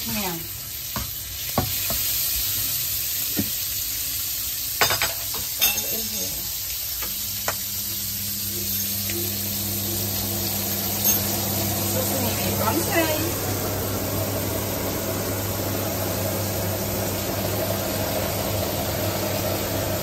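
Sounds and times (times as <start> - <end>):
shrimp sizzling in oil: 0.0 - 20.0.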